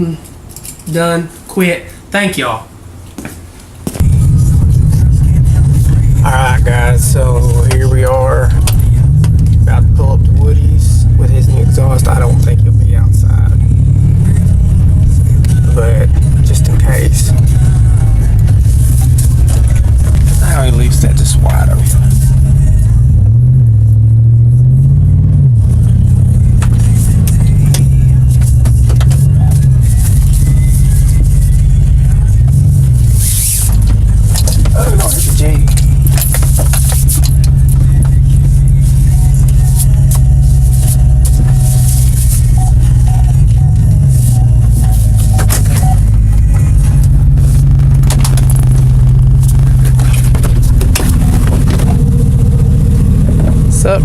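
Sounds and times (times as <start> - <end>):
truck exhaust drone: 2.7 - 54.0.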